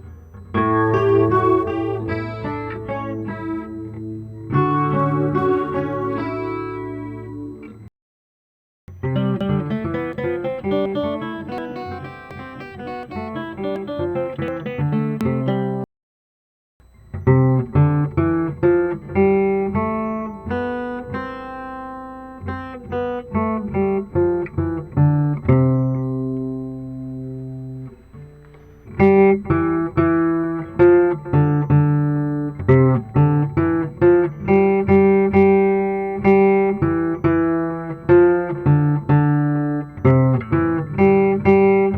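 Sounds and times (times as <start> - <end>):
guitar melody from phone app: 0.0 - 7.9, 8.9 - 15.9, 17.1 - 41.9.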